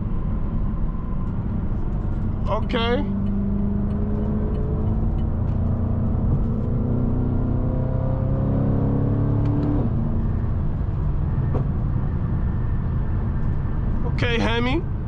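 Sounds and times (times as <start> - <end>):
car engine accelerating: 0.0 - 14.1.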